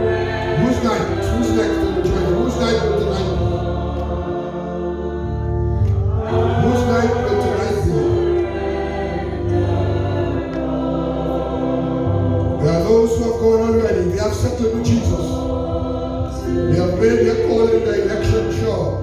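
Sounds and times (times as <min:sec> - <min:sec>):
group singing a hymn: 0:00.0 - 0:19.0
musical accompaniment: 0:00.0 - 0:19.0.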